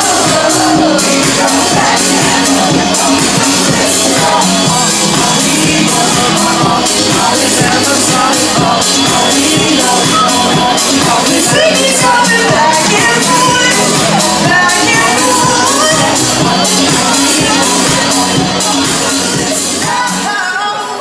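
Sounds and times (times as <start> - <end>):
live band playing pop: 0.0 - 21.0
woman singing: 0.0 - 21.0.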